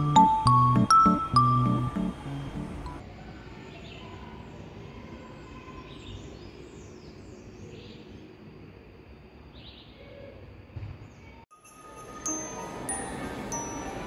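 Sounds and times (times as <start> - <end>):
steady low background noise: 0.0 - 14.0.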